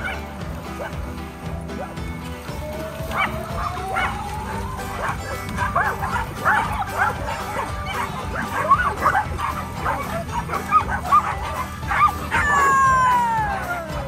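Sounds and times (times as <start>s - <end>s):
background music: 0.0s - 14.0s
dogs barking and yipping: 0.0s - 14.0s.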